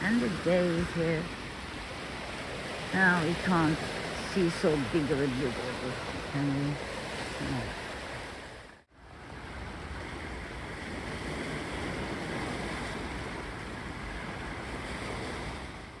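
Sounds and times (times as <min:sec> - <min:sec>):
sea surf washing onto beach: 0:00.0 - 0:16.0.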